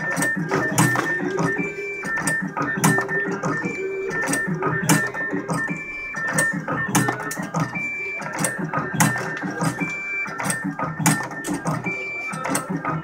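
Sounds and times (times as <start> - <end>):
music: 0.0 - 13.0
wire cutting machine clattering: 0.0 - 13.0.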